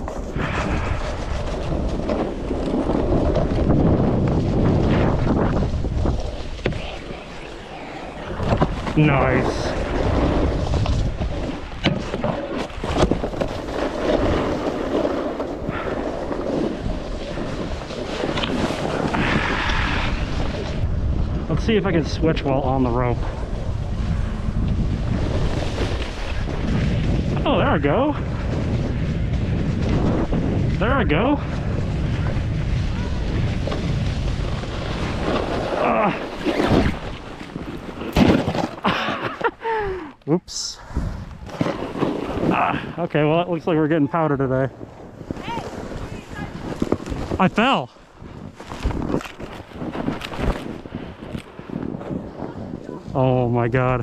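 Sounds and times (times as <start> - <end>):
snowboard scraping on snow: 0.0 - 39.8, 40.6 - 53.5
wind buffeting microphone: 0.0 - 54.0.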